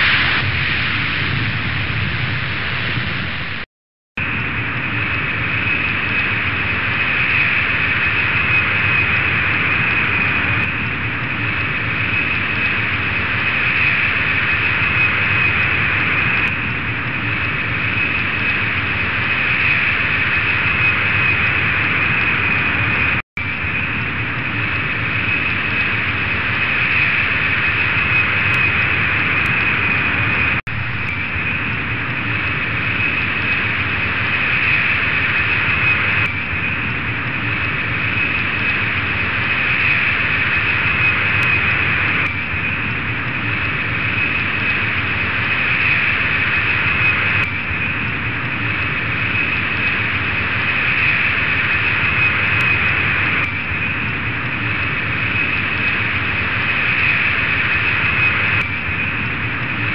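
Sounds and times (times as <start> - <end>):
jet engine whine and hiss: 0.0 - 59.9.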